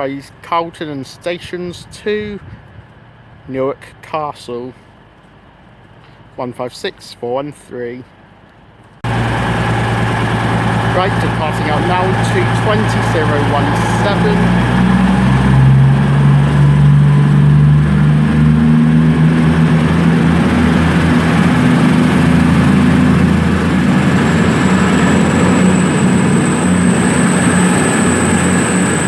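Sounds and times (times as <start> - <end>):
diesel train engines running: 0.0 - 29.0.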